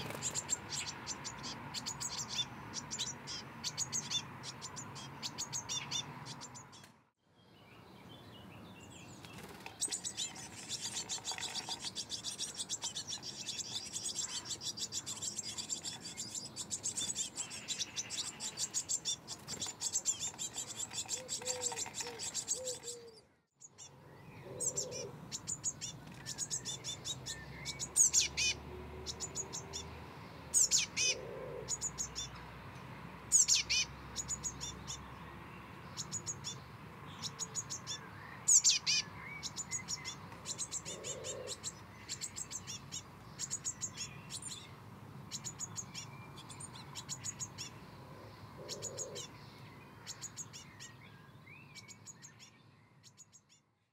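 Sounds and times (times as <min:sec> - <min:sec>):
nestlings chirping: 0:00.0 - 0:07.0, 0:08.9 - 0:29.9, 0:30.5 - 0:32.4, 0:33.3 - 0:35.2, 0:35.9 - 0:47.9
falling bird calls: 0:00.0 - 0:32.5, 0:33.3 - 0:53.6.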